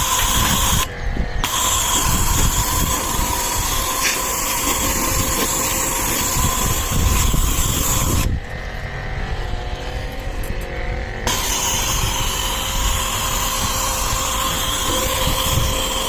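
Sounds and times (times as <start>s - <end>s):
water spray hiss: 0.0s - 8.2s, 11.3s - 16.0s
pressure washer motor whine: 0.0s - 16.0s.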